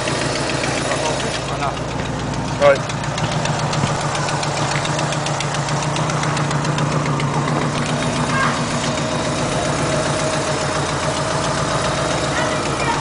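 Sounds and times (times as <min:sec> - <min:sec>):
car engine idling: 0:00.0 - 0:13.0
fast engine ticking: 0:00.0 - 0:13.0.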